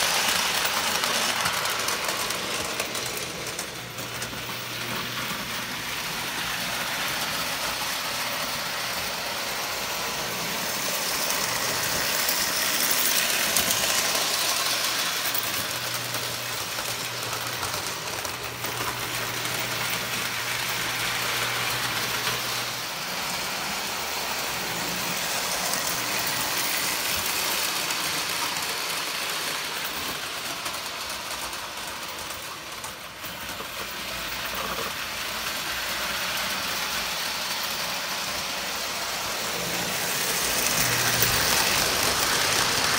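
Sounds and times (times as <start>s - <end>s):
toy trains rumbling on track: 0.0s - 42.9s.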